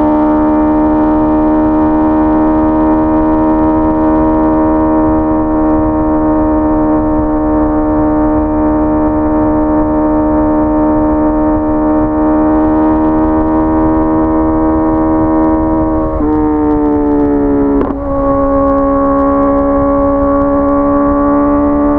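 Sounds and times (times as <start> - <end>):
motorcycle engine at high revs: 0.0 - 21.9.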